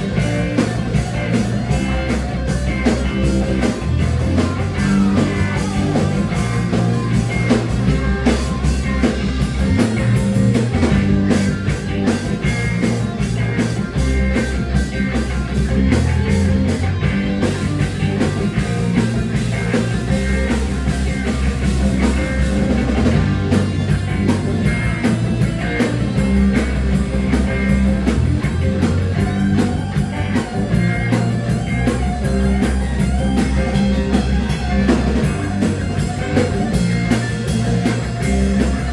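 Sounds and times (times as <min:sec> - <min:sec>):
drum kit: 0:00.0 - 0:38.9
rock music with electric guitar: 0:00.0 - 0:38.9.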